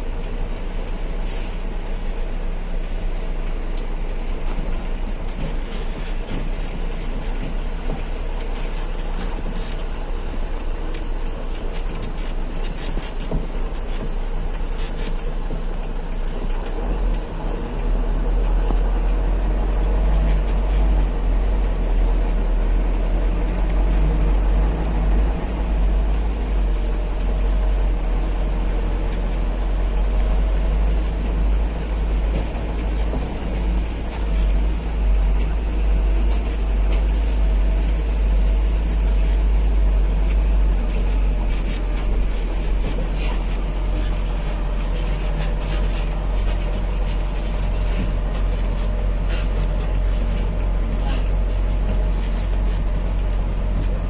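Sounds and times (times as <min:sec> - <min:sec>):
road noise: 0:00.0 - 0:54.0
truck engine rumble: 0:00.0 - 0:54.0.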